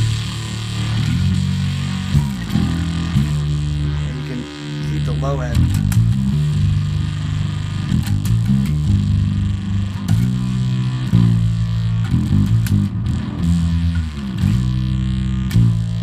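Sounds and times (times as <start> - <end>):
electric bass with octave fuzz: 0.0 - 16.0.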